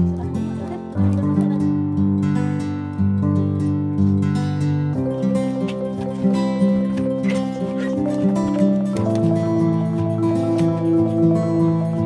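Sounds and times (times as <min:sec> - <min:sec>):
plucked guitar-like instrumental music: 0:00.0 - 0:12.0.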